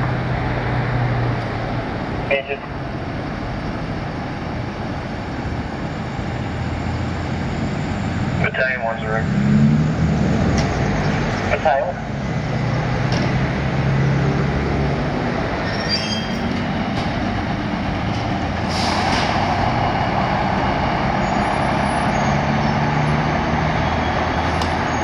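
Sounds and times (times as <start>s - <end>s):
diesel engines droning: 0.0s - 25.0s.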